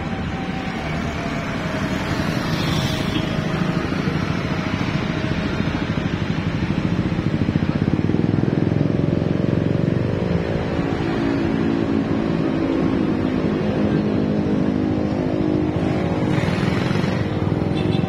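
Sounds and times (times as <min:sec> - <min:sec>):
traffic engines running: 0:00.0 - 0:18.0.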